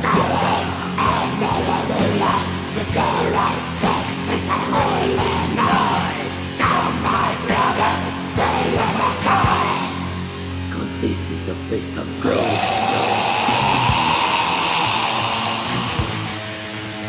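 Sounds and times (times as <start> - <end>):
distorted black metal band playing: 0.0 - 17.0.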